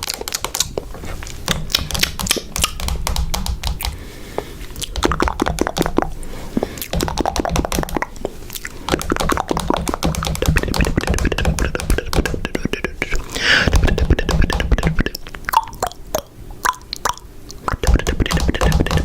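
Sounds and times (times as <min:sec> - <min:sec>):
rapid irregular clicking: 0:00.0 - 0:15.3, 0:17.7 - 0:19.0.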